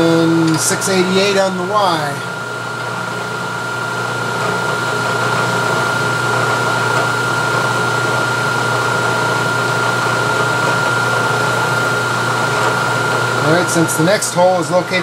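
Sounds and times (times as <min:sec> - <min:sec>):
high spindle whine: 0:00.0 - 0:15.0
milling machine motor hum: 0:00.0 - 0:15.0.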